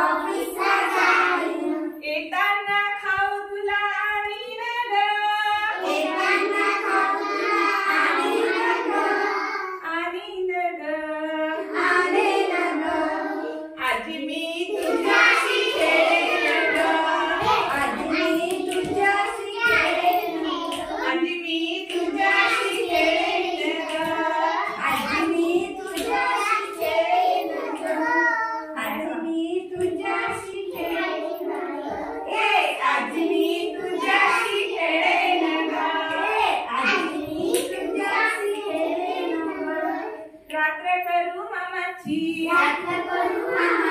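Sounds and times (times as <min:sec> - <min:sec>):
children and woman singing: 0:00.0 - 0:43.9.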